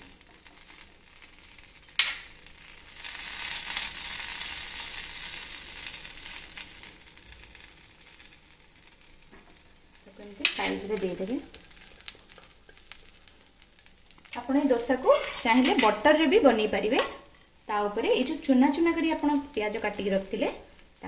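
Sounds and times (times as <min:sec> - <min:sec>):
dosa sizzling in oil: 0:00.0 - 0:21.0.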